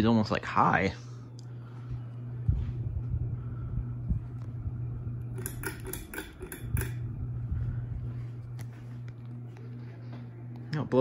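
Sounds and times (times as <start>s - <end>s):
ceiling fan motor buzz: 0.0s - 11.0s.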